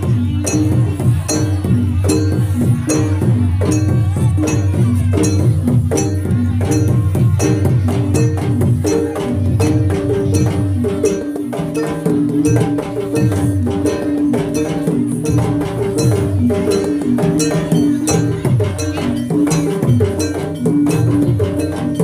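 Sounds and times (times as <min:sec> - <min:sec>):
gamelan music: 0:00.0 - 0:22.0.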